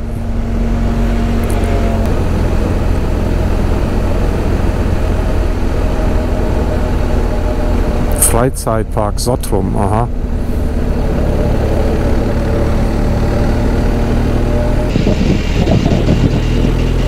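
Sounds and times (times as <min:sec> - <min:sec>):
motorcycle engine drone: 0:00.0 - 0:17.0
wind and road rush: 0:00.0 - 0:17.0.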